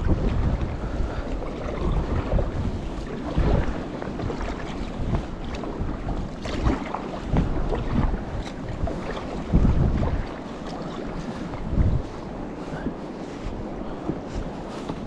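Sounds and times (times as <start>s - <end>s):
waves slapping against hull: 0.0s - 15.0s
wind buffeting microphone: 0.0s - 15.0s.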